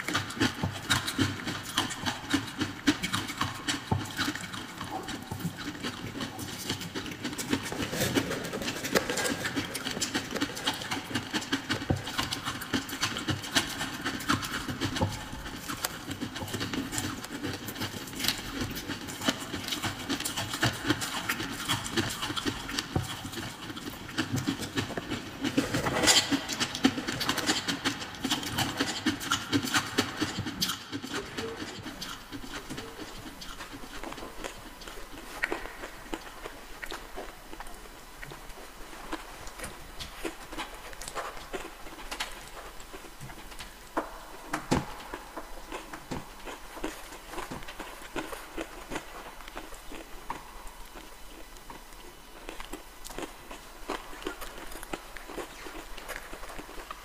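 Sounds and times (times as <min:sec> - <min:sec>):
ice crunching being chewed: 0:00.0 - 0:57.0.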